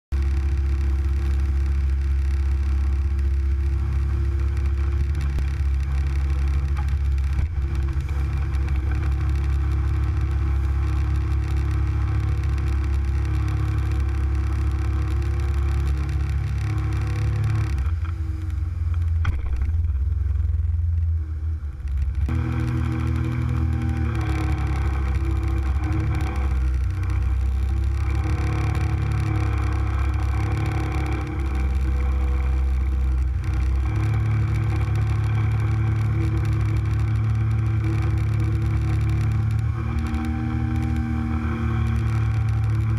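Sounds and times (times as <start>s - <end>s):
boat engine droning: 0.2s - 42.9s.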